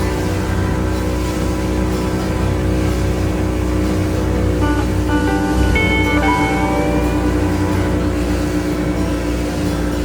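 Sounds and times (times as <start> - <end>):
instrumental music with guitar: 0.0 - 10.0.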